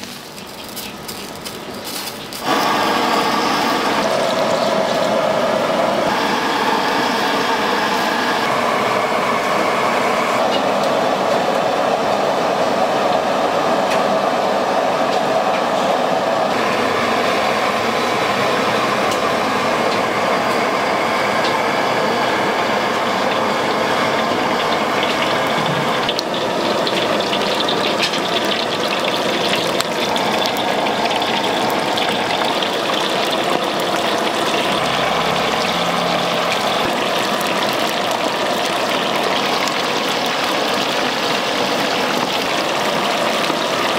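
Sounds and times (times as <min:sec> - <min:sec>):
sizzling in a wok: 0:00.0 - 0:11.3, 0:16.5 - 0:43.9
gas burner rushing: 0:00.0 - 0:43.9.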